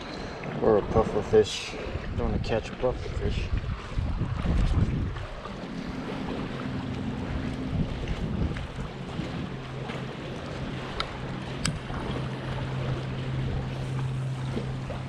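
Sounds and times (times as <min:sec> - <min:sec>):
choppy water at a seawall: 0:00.0 - 0:15.0
steady low hum: 0:00.0 - 0:15.0
wind on microphone: 0:01.8 - 0:15.0.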